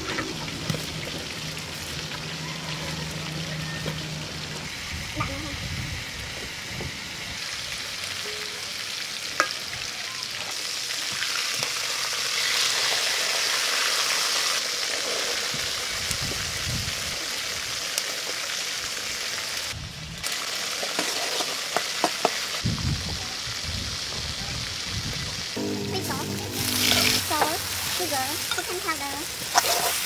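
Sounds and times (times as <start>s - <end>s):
aromatics sizzling in wok: 0.0s - 30.0s
fish sizzling in hot oil: 0.0s - 30.0s.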